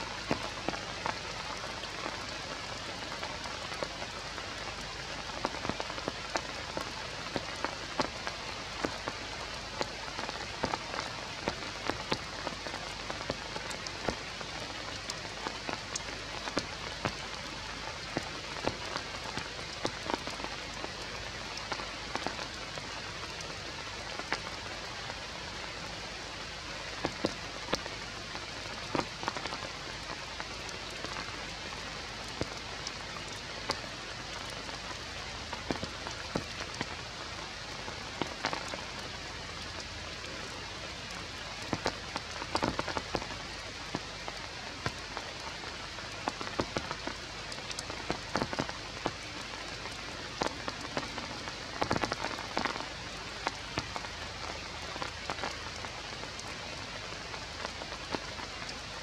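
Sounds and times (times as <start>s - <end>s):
rain on leaves: 0.0s - 59.0s.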